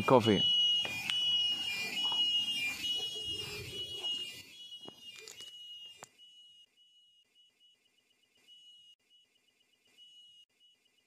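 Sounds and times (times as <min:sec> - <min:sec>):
steady high-pitched tone: 0:00.0 - 0:10.8.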